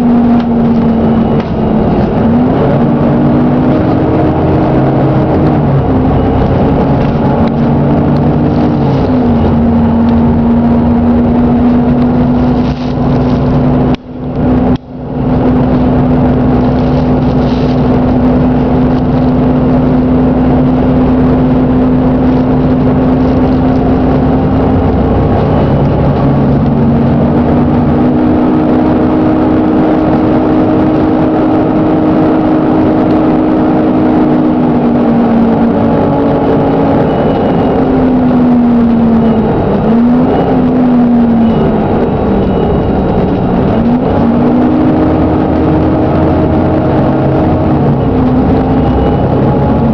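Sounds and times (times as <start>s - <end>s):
knocking bus engine drone: 0.0s - 49.9s.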